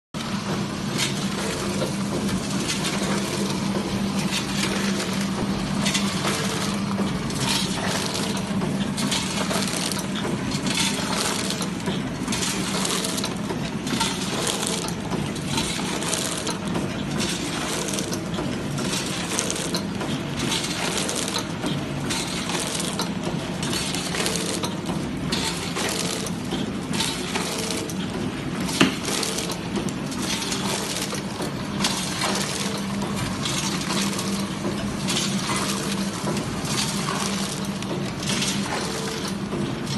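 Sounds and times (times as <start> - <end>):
machine humming: 0.2 - 39.9.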